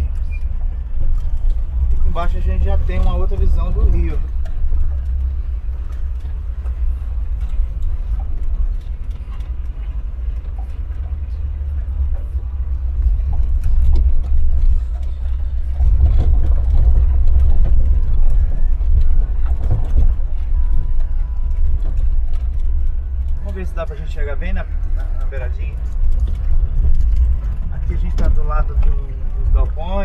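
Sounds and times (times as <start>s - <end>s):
road noise: 0.0s - 30.0s
van engine rumble: 0.0s - 30.0s.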